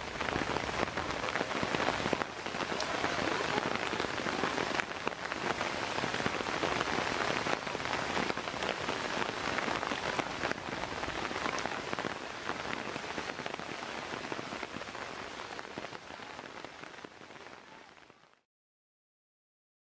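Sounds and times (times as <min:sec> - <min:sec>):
rain falling: 0:00.0 - 0:18.4.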